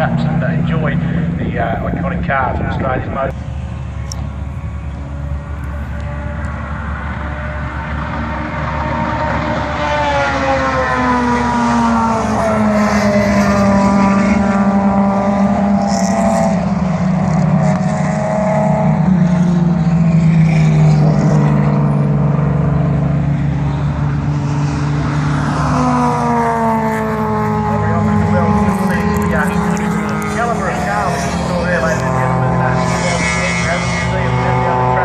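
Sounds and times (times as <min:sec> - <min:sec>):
racing cars passing at high revs: 0:00.0 - 0:35.0.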